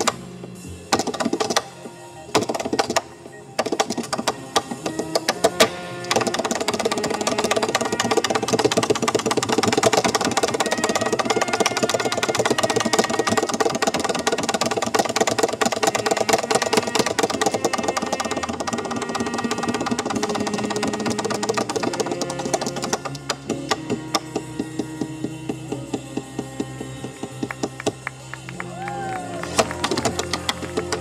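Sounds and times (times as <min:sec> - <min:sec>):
tap dancing on stage floor: 0:03.6 - 0:31.0.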